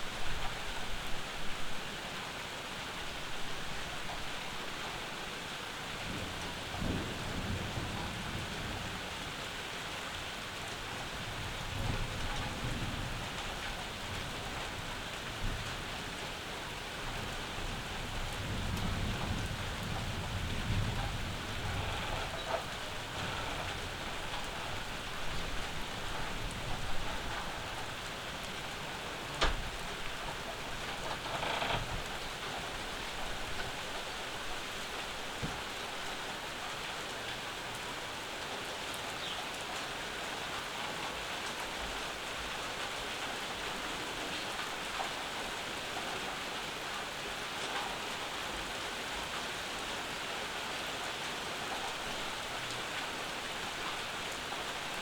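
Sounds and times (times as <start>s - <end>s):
rain falling on porch and yard: 0.0s - 55.0s.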